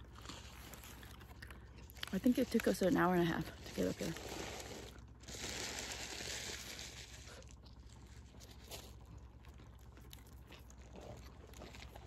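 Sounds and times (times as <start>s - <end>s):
chewing sandwich crunches: 0.0s - 12.0s.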